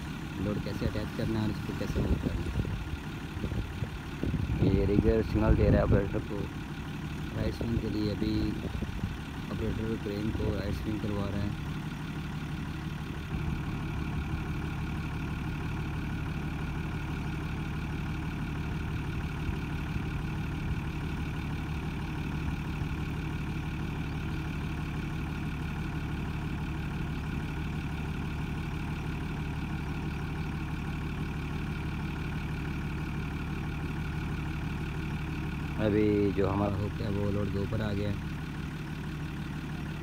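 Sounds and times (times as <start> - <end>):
crane diesel engine running: 0.0 - 40.0.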